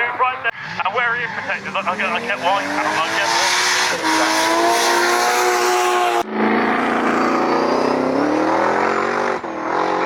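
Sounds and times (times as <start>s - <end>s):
car engine at high revs: 0.0s - 10.0s
engine revving up: 0.0s - 10.0s.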